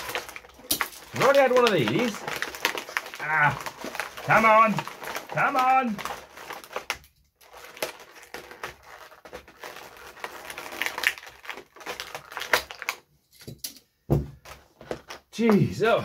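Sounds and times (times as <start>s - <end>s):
plastic packaging crackling: 0.0s - 13.1s, 14.4s - 15.8s.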